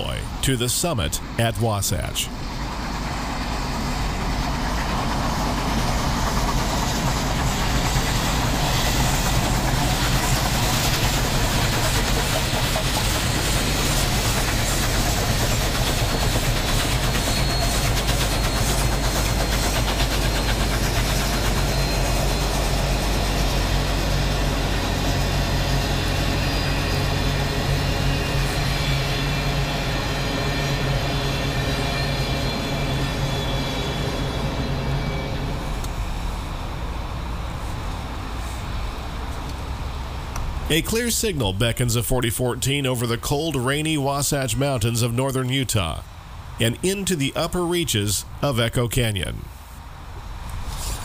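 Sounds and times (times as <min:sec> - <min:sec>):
steam locomotive exhaust rushing: 0:00.0 - 0:51.0.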